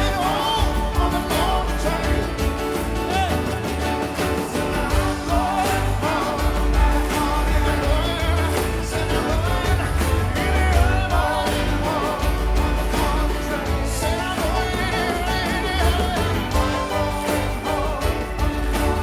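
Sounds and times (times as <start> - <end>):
live rock blues band: 0.0 - 19.0.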